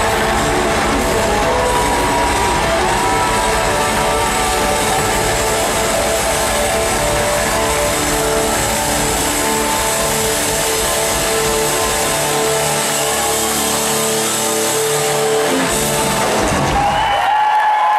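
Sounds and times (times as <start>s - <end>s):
cymbals: 0.0s - 17.3s
live rock band playing: 0.0s - 17.3s.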